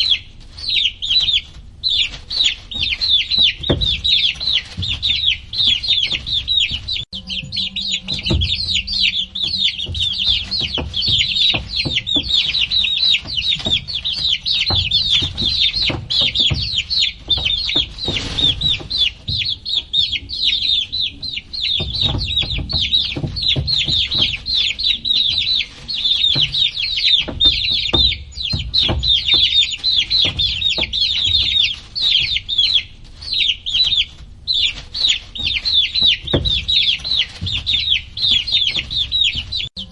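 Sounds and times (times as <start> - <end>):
baby chicks peeping: 0.0 - 39.9
low knocks and bumps: 1.3 - 39.9.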